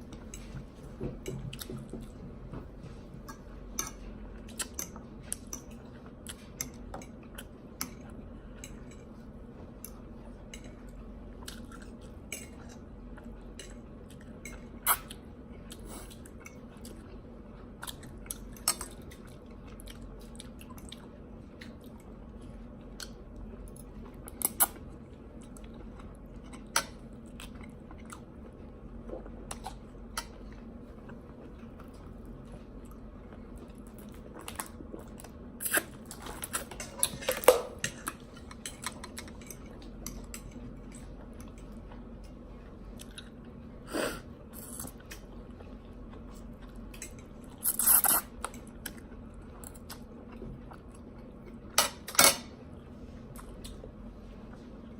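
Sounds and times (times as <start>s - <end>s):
people chewing food: 0.0s - 51.8s.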